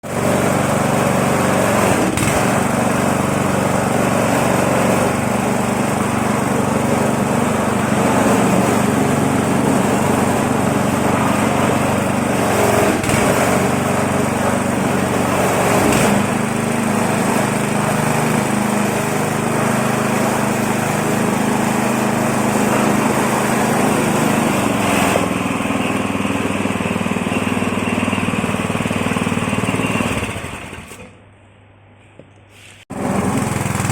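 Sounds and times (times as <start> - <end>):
husk-peeling machine running: 0.0 - 31.1, 32.9 - 33.9.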